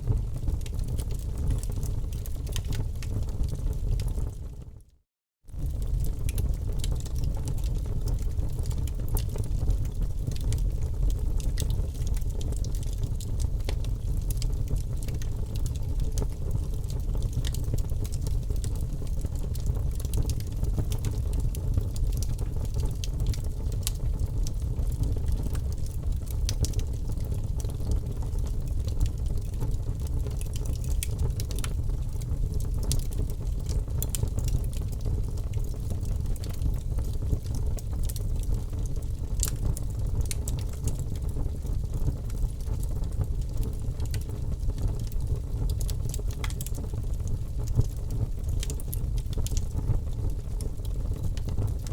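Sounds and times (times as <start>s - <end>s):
wood fire crackling: 0.0s - 4.6s, 5.5s - 51.9s.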